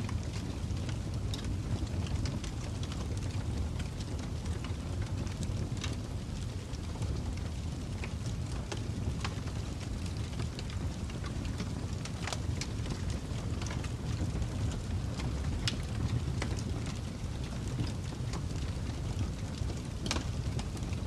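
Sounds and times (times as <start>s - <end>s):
fire low rumble: 0.0s - 21.0s
fire pops and snaps: 0.0s - 21.0s.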